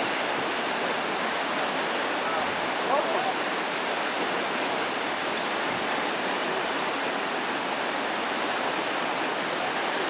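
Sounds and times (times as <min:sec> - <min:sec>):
whitewater rapids roaring: 0:00.0 - 0:10.0.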